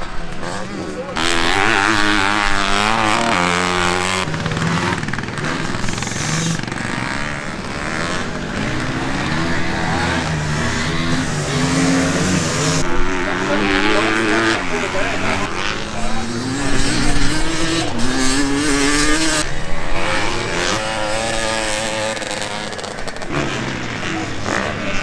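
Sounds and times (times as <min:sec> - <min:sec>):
motocross bike engines revving: 0:00.0 - 0:25.0.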